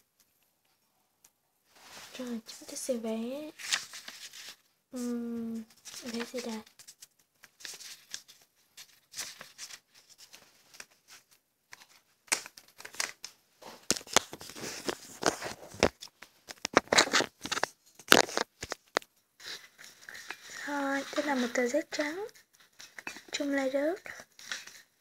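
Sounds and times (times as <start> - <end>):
paper rustling and scraping: 1.8 - 2.7, 3.5 - 25.0.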